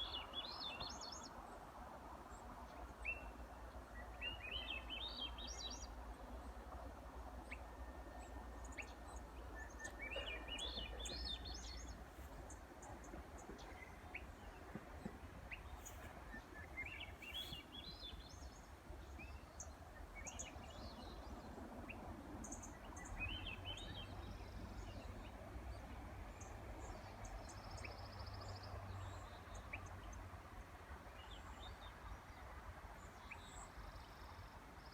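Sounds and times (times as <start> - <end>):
songbirds singing: 0.0 - 1.4, 2.3 - 6.5, 7.3 - 30.5.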